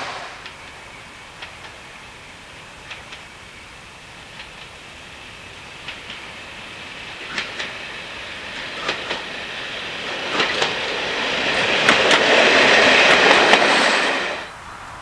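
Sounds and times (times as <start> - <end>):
diesel train passing: 0.0 - 15.0
wheels clicking over rail joints: 0.4 - 15.0.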